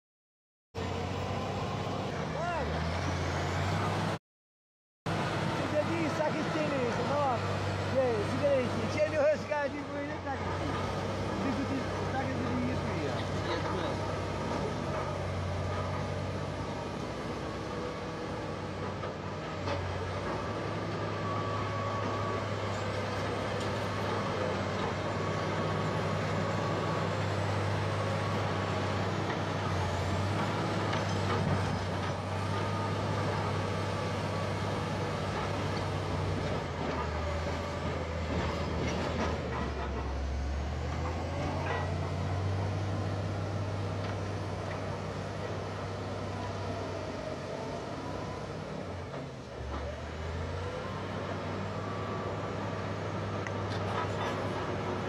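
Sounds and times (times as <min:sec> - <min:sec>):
diesel engine running under load: 0:05.1 - 0:55.0.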